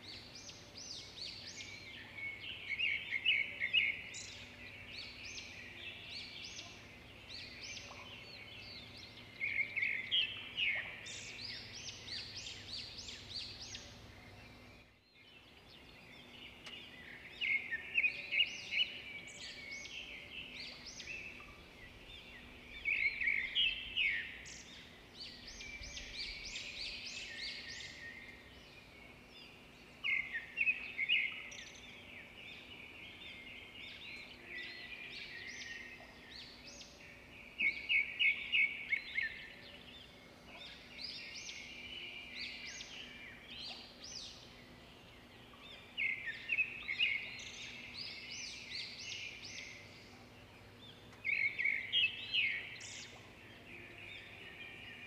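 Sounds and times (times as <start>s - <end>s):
small birds chirping: 0.0s - 55.0s
faint low hum: 3.8s - 55.0s.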